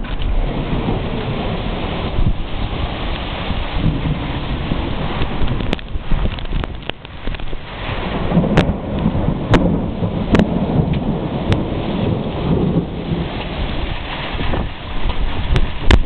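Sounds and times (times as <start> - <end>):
heavy rain: 0.0 - 16.0
strong wind gusts: 0.0 - 16.0
thunder rumble: 0.0 - 16.0.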